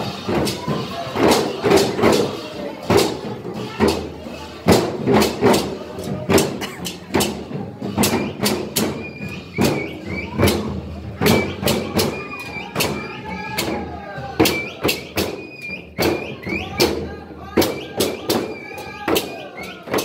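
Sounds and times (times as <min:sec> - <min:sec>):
crowd voices calling: 0:00.0 - 0:20.0
frame drums beating: 0:00.0 - 0:20.0.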